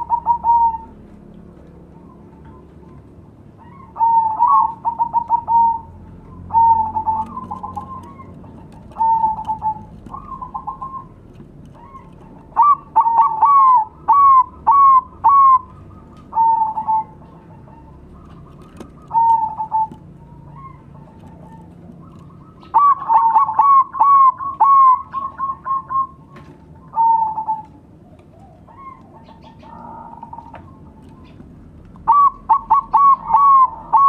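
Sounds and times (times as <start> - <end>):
doves cooing: 0.0 - 34.0.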